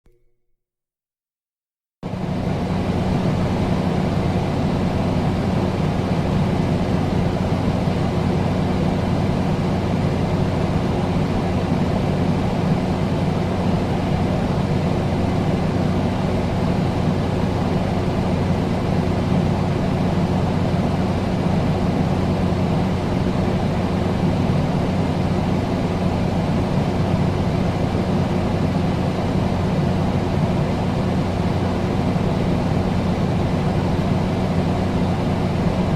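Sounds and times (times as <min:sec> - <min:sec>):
air conditioner running: 0:02.0 - 0:35.9.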